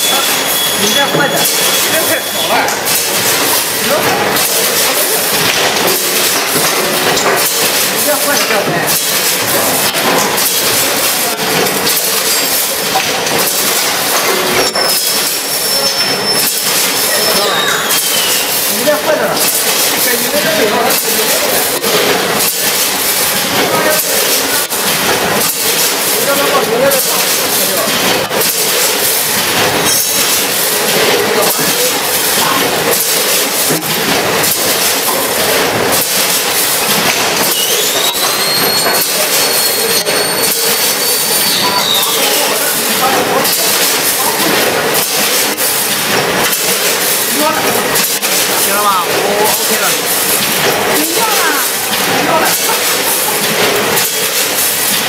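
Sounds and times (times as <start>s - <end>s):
packaging machine clattering: 0.0s - 55.0s.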